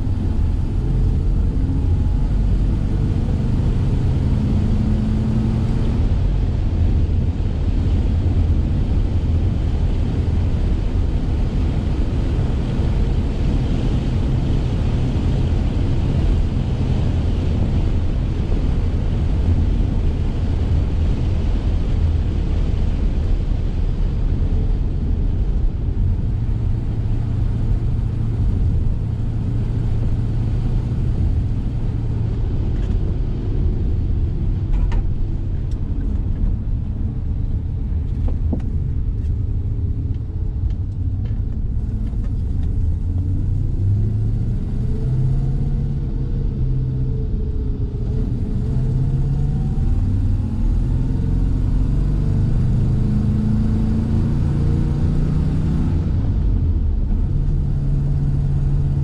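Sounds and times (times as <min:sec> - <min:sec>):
car engine running: 0:00.0 - 0:51.9
tyre and road rumble: 0:00.0 - 0:59.0.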